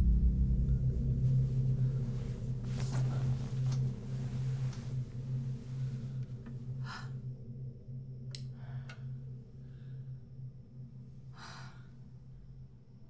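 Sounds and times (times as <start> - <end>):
low steady hum: 0.0 - 13.0
soft breaths: 1.2 - 13.0.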